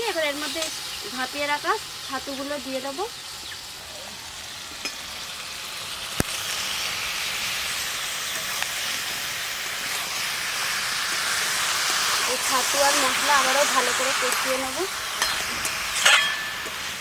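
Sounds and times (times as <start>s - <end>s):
paste sizzling in a pan: 0.0s - 17.0s.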